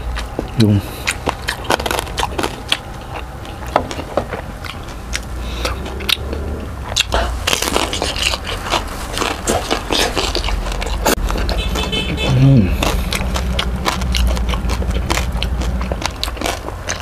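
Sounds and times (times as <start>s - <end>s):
crunching of crispy food: 0.0s - 17.0s
mouth clicks and chewing: 0.0s - 17.0s.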